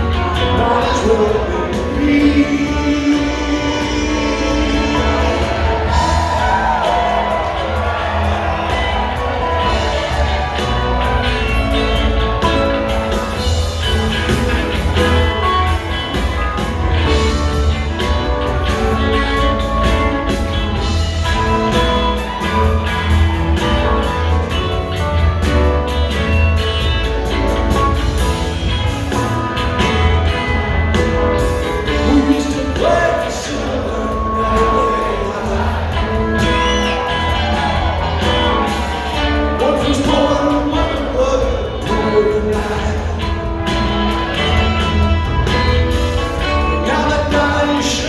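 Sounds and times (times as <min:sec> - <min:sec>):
live rock band playing: 0:00.0 - 0:48.0.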